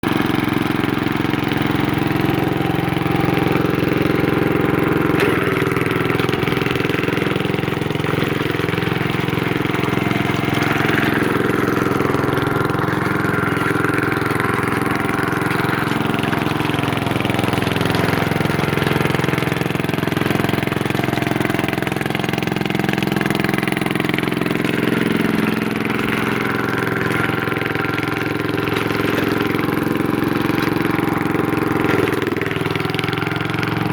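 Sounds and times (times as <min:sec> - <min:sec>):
garden tractor engine running: 0:00.0 - 0:33.9.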